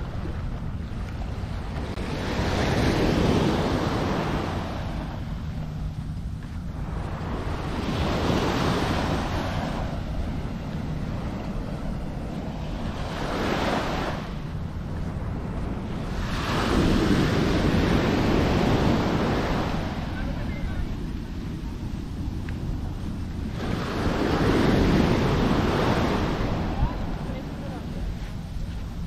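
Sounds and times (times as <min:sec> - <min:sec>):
waves breaking on beach: 0:00.0 - 0:29.0
wind rumbling on microphone: 0:00.0 - 0:29.0.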